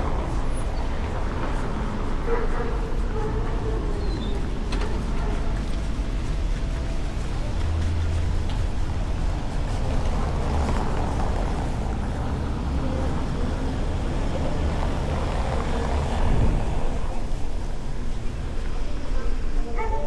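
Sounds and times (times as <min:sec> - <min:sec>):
low traffic rumble: 0:00.0 - 0:20.0
vehicles passing: 0:00.0 - 0:20.0.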